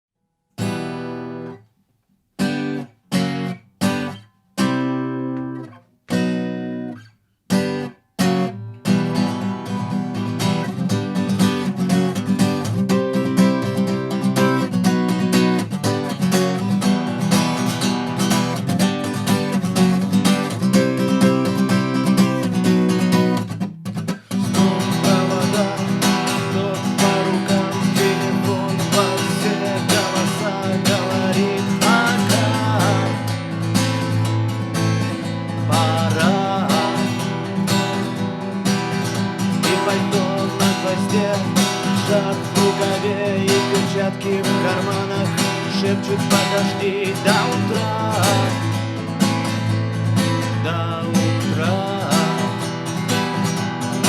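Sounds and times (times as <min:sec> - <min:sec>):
acoustic guitar chords: 0:00.5 - 0:01.7, 0:02.4 - 0:54.0.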